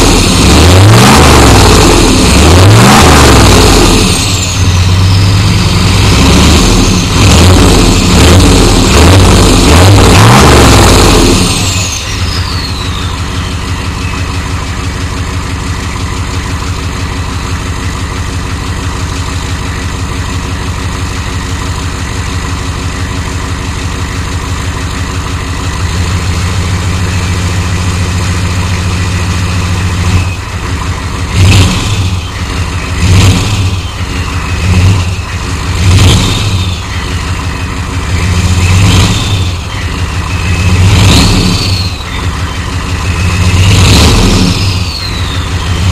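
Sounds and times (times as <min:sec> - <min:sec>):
diesel engine idling: 0:00.0 - 0:45.9
engine revving: 0:00.0 - 0:45.9
turbo whine: 0:00.0 - 0:45.9.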